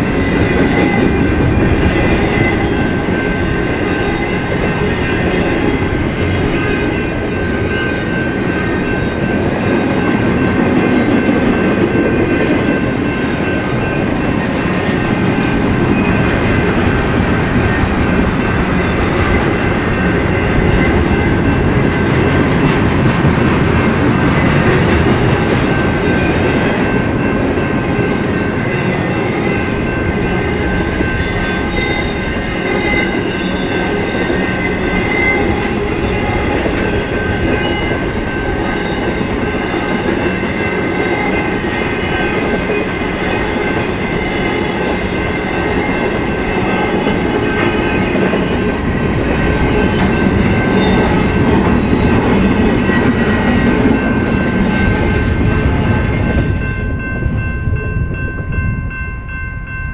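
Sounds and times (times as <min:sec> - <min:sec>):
train wheels clattering on rails: 0:00.0 - 0:58.3.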